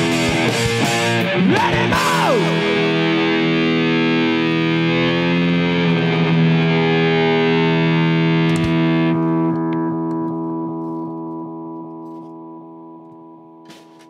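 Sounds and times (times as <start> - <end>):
distorted electric guitar chord ringing: 0.0 - 14.0.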